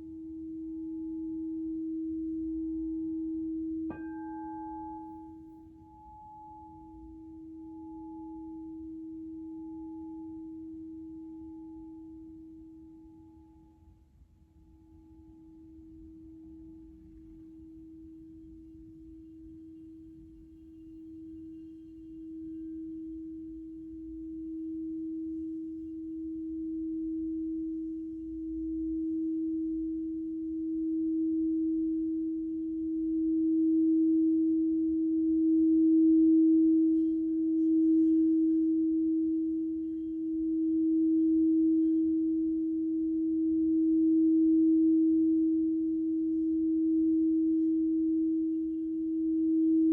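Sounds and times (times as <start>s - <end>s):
singing bowl tone: 0.0s - 49.9s.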